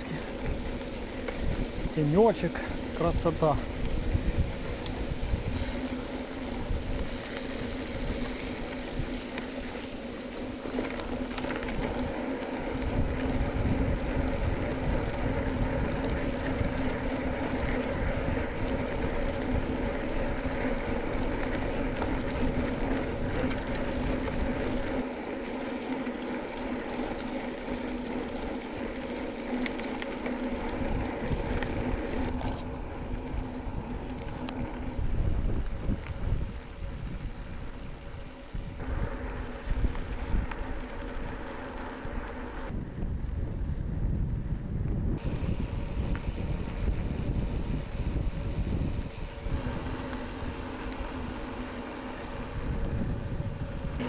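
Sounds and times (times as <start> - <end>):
bike tyres on dirt road: 0.0 - 54.0
wind rumbling on microphone: 0.0 - 54.0.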